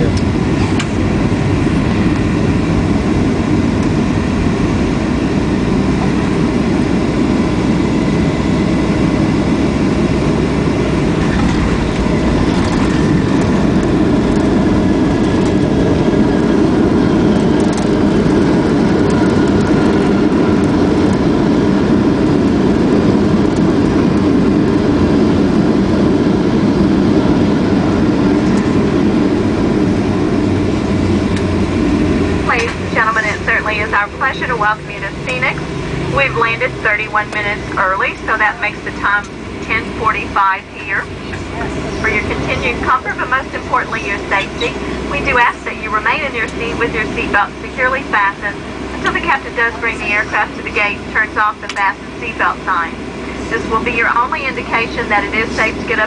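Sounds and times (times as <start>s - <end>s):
airliner jet engine and airflow: 0.0s - 56.0s.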